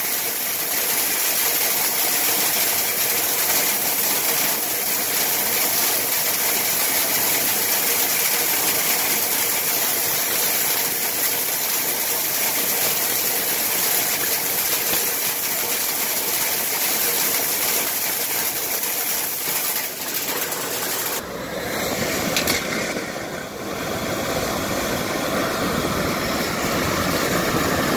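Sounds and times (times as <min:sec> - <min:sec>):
air rushing from spinning whip: 0:00.0 - 0:27.9.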